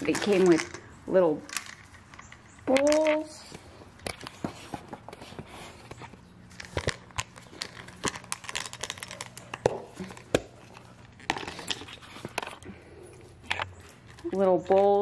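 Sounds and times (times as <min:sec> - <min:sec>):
bag crinkling and rustling: 0:01.5 - 0:15.0.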